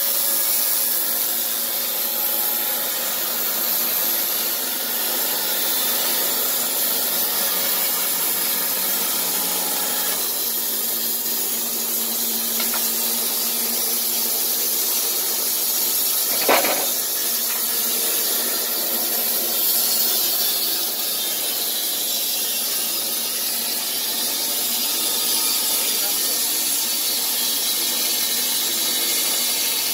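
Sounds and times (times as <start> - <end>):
band sawmill running: 0.0 - 29.9.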